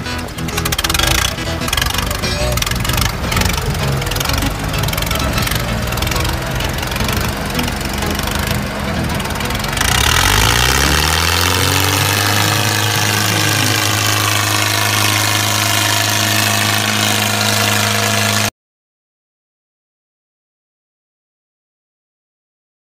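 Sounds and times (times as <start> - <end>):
tractor engine running: 0.0 - 18.5.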